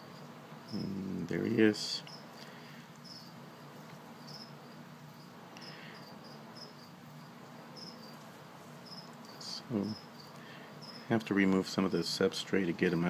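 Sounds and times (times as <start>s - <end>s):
cricket chirping: 0.0s - 11.2s
faint low hum: 0.0s - 13.0s.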